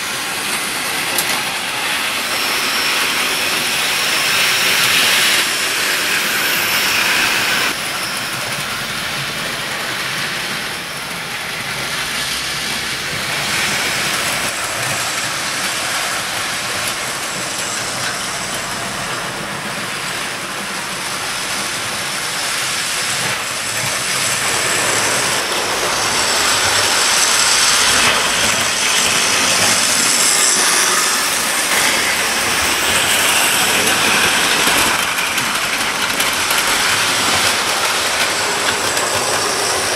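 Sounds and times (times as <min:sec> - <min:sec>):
model train motors whirring: 0:00.0 - 0:39.9.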